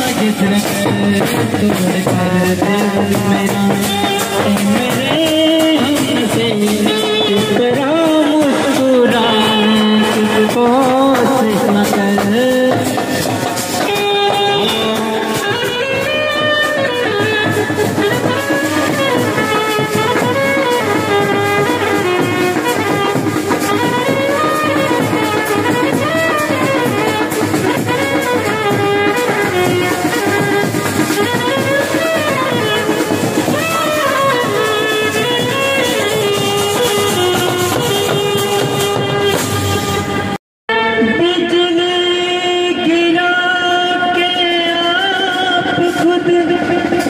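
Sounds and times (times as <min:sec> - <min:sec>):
drums beating: 0:00.0 - 0:40.4, 0:42.7 - 0:47.0
trumpets playing a melody: 0:00.0 - 0:40.4.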